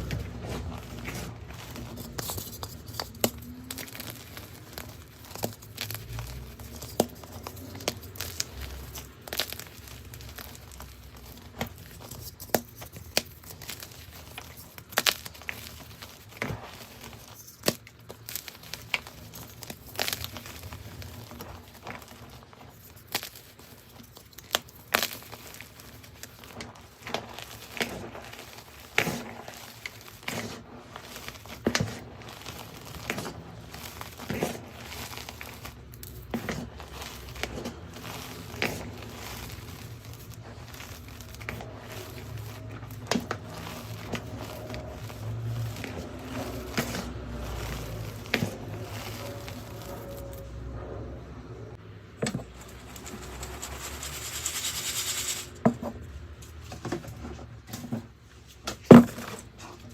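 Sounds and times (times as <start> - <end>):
chalk crunching by hand: 0.0 - 50.5, 52.5 - 55.6.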